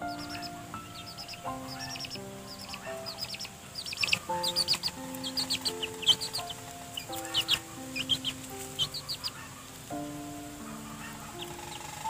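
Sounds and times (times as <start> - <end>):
background music of held notes: 0.0 - 12.0
chicks peeping: 0.0 - 12.0.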